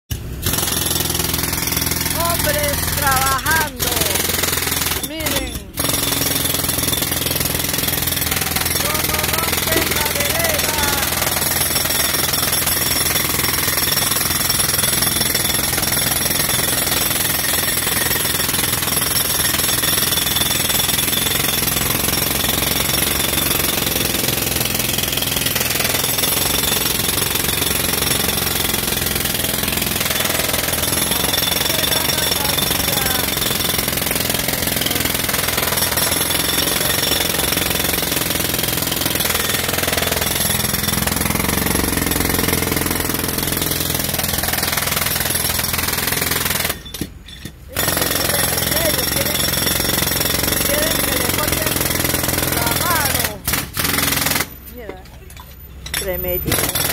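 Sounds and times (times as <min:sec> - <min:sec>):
jackhammer hammering concrete: 0:00.1 - 0:56.9.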